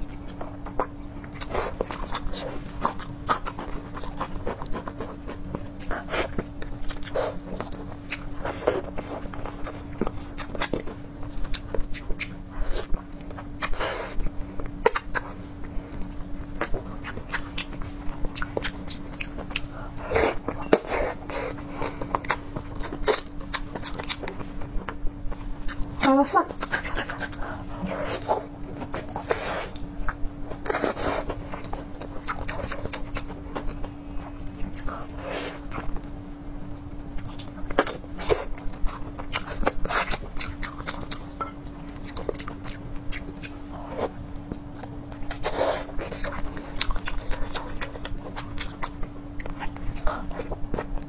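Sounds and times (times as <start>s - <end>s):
steady low hum: 0.0s - 51.0s
wet chewing and sucking: 0.0s - 51.0s.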